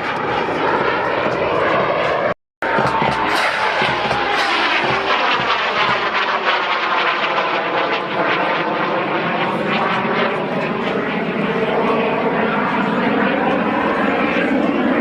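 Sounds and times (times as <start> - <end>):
jet engine flying past: 0.0 - 15.0.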